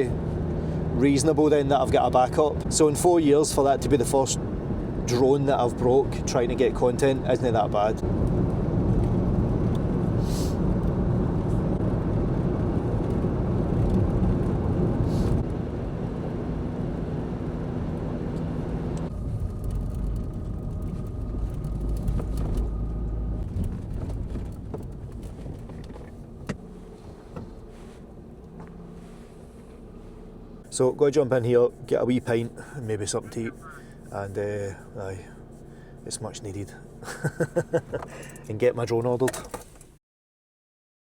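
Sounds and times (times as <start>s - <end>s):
vehicle engine and road rumble: 0.0s - 40.0s.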